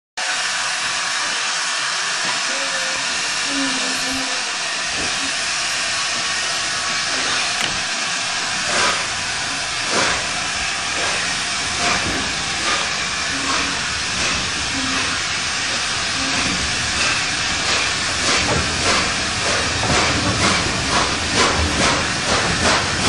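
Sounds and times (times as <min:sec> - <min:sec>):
loud steam hiss: 0:00.2 - 0:23.0
steam locomotive exhaust chuffs: 0:00.2 - 0:23.0.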